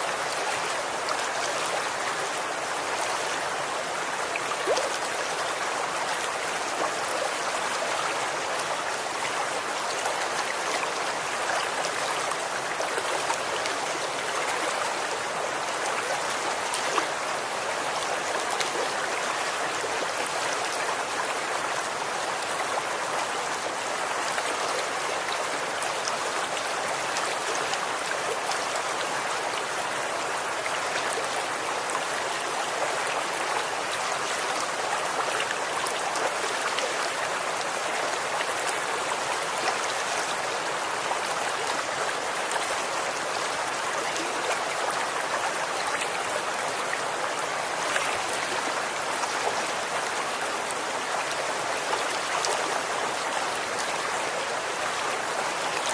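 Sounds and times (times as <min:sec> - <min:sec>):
stream flowing over stones: 0:00.0 - 0:55.9.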